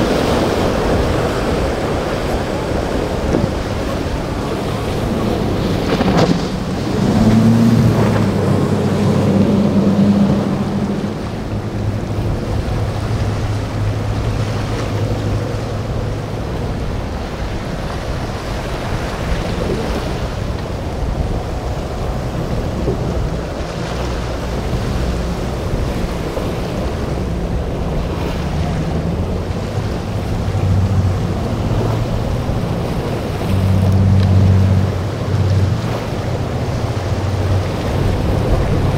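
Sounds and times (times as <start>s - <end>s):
motorboat engines humming: 0.0s - 38.9s
waves: 0.0s - 38.9s
wind noise on microphone: 0.0s - 38.9s.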